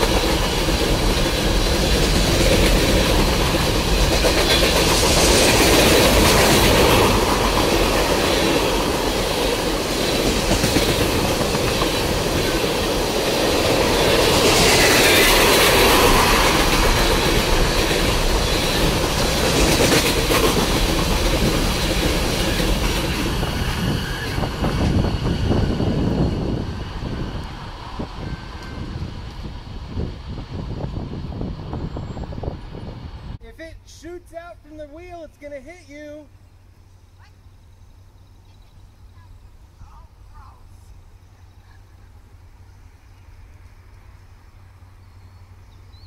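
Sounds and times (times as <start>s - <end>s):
freight train cars rolling past: 0.0s - 46.0s.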